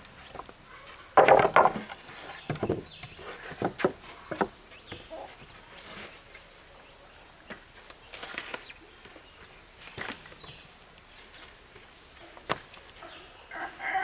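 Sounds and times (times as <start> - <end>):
rustles: 0.0 - 13.9.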